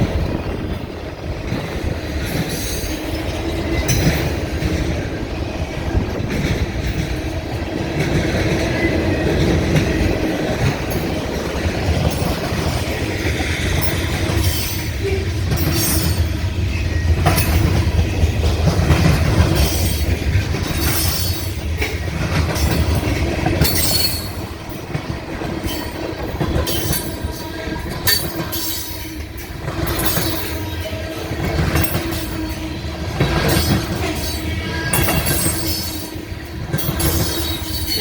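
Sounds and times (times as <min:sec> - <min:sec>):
freight train wheels rumbling: 0:00.0 - 0:38.0
clicking over rail joints: 0:05.8 - 0:38.0.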